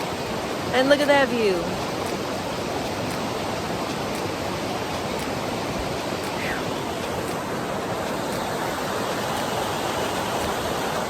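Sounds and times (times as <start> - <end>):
creek rushing: 0.0 - 11.0.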